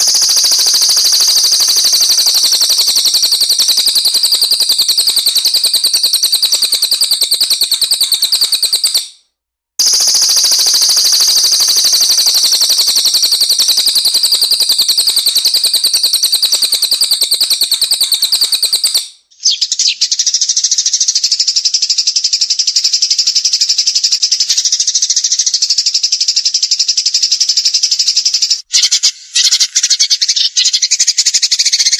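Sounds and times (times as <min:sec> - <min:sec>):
songbirds singing fast chirps: 0:00.0 - 0:09.1, 0:09.8 - 0:31.9.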